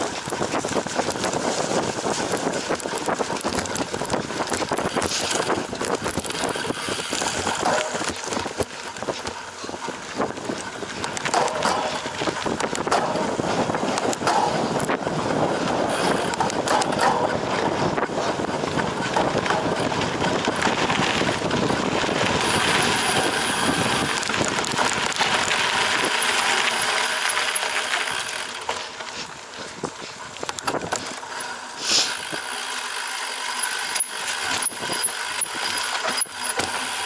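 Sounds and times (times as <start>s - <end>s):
bike rattling and clicking: 0.0s - 37.0s
bike tyres on dirt and gravel: 0.0s - 37.0s.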